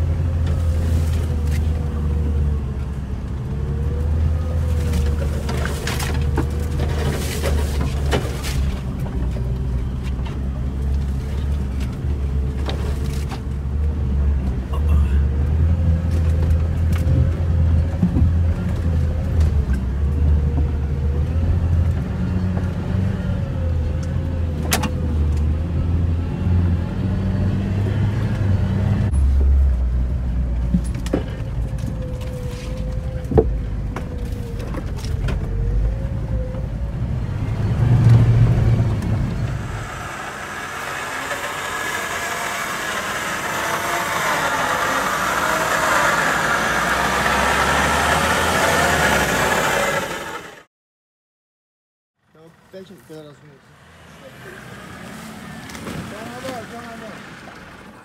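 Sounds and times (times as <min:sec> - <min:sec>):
off-road vehicle engine rumbling: 0:00.0 - 0:50.7, 0:52.2 - 0:58.0.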